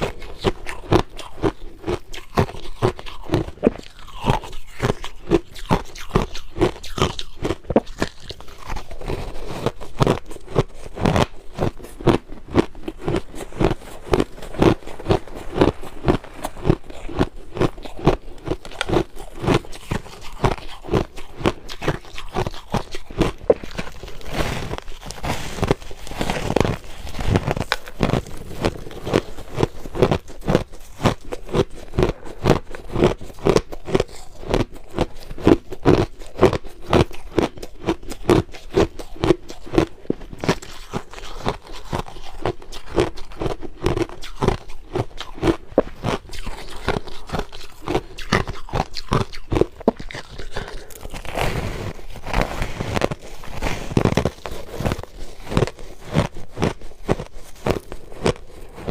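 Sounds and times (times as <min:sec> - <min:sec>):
person chewing crushed ice: 0:00.0 - 0:58.9.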